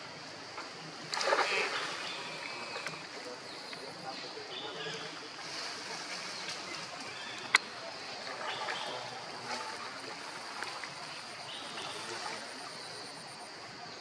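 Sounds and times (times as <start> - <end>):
stream water trickling: 0.0 - 14.0.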